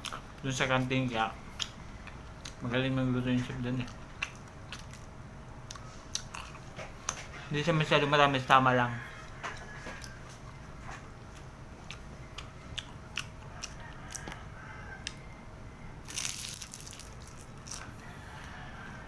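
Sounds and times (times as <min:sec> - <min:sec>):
crispy food crunching: 0:00.0 - 0:08.2, 0:09.0 - 0:15.3, 0:16.0 - 0:18.6.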